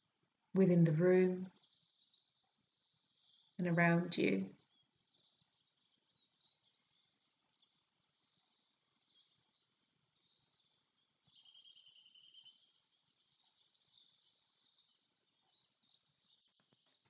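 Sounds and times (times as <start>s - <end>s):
faint forest birdsong: 0.0s - 17.0s.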